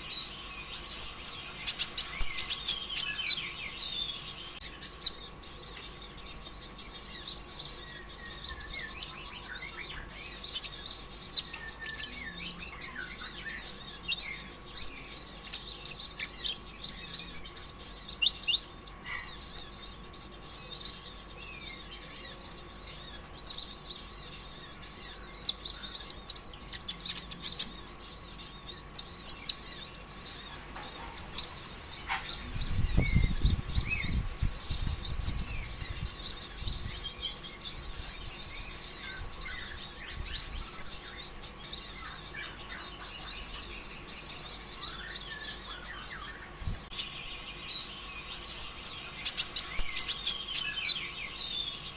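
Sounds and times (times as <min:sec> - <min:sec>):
bird chirping and trilling: 0:00.0 - 0:51.9.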